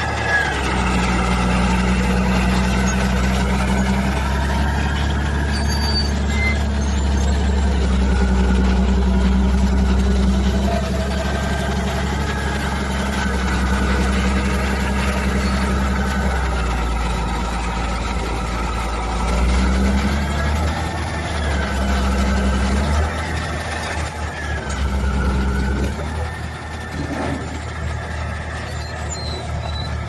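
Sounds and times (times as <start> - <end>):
heavy machinery engine hum: 0.0 - 30.0.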